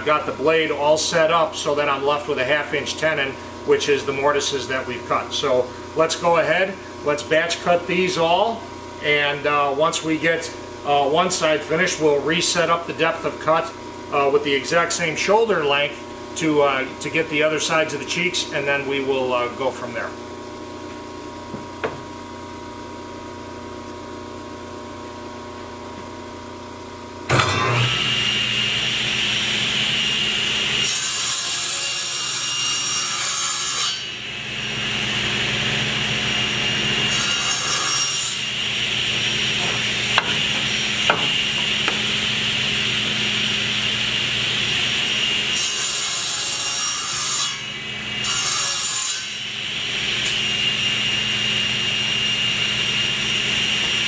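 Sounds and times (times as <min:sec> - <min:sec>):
table saw cutting wood: 0:00.0 - 0:20.1, 0:27.3 - 0:54.0.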